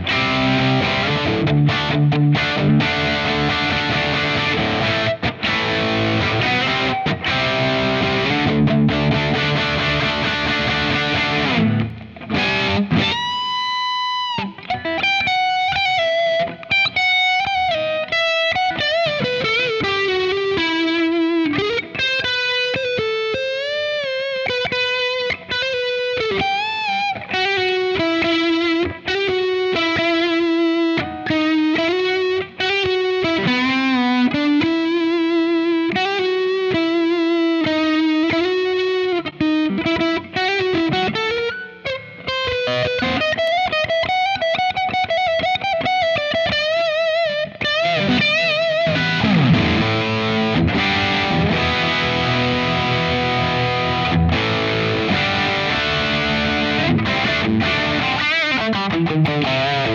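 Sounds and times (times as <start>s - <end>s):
distorted electric guitar solo: 0.0s - 59.9s.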